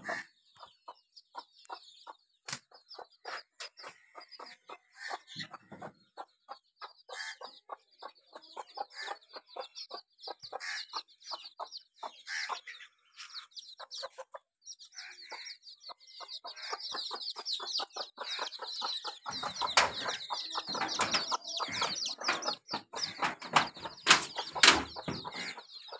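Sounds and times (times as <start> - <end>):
chicks peeping: 0.0 - 25.9
hen clucking: 0.0 - 25.9.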